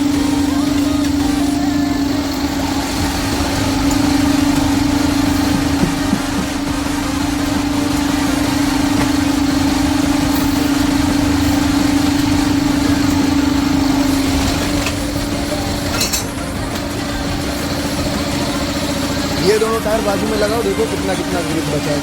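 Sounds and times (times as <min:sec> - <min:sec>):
motor humming: 0:00.0 - 0:22.0.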